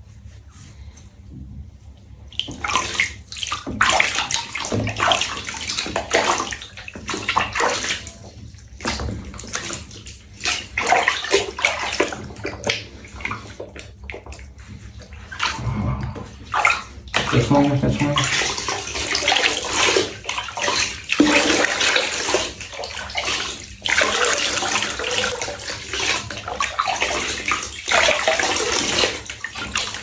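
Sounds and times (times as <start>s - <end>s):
water splashing in a bath: 0.0s - 30.0s.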